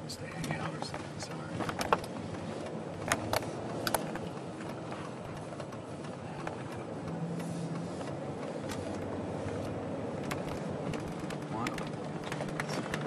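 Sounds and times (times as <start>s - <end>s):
van road and engine noise: 0.0s - 13.0s.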